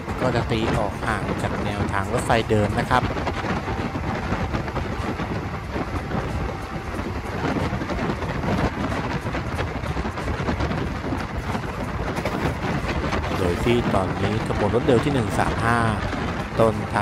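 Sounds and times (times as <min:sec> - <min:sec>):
train rumbling at speed: 0:00.0 - 0:17.0
wind buffeting microphone: 0:00.0 - 0:17.0.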